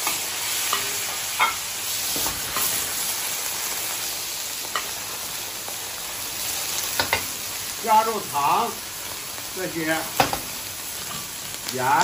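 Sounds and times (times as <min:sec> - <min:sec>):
sauce sizzling in hot oil: 0:00.0 - 0:12.0.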